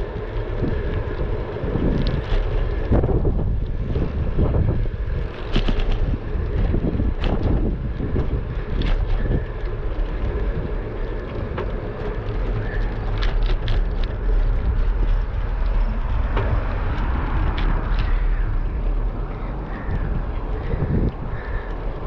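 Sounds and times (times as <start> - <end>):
tyre noise on pavement: 0.0 - 22.0
wind buffeting microphone: 0.0 - 22.0.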